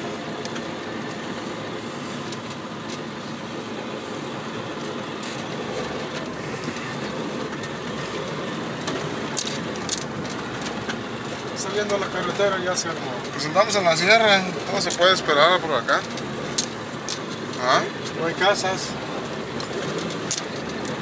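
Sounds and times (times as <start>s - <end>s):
tyres on dirt and gravel: 0.0s - 21.0s
vehicle body rattles: 0.0s - 21.0s.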